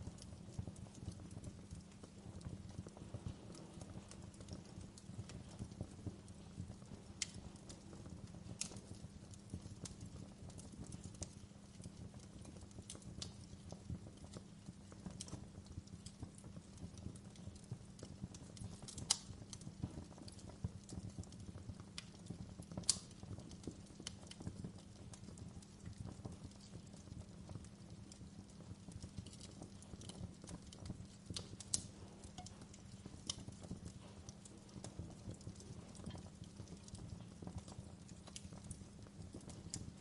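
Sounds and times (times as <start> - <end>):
wood fire crackling and snapping: 0.0 - 40.0.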